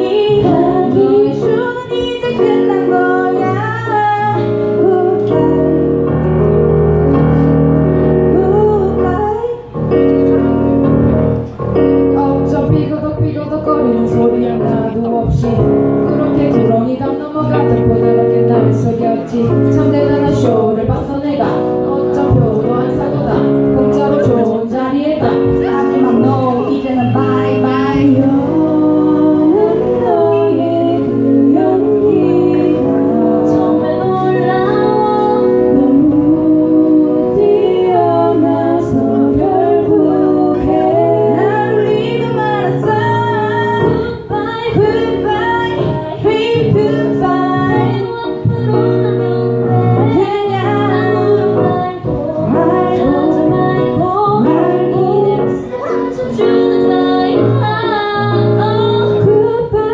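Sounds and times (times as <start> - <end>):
women singing in harmony: 0.0 - 6.6, 8.1 - 9.8, 12.2 - 59.9
keyboard accompaniment: 0.0 - 59.9.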